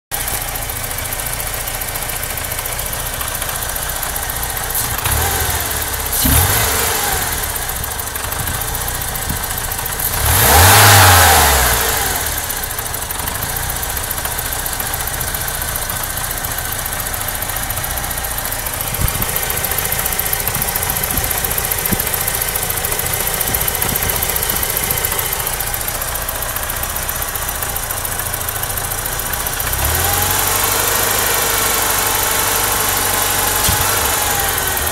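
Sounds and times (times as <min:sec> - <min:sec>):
car engine idling roughly: 0:00.1 - 0:34.9
engine throttle blips: 0:02.7 - 0:34.9.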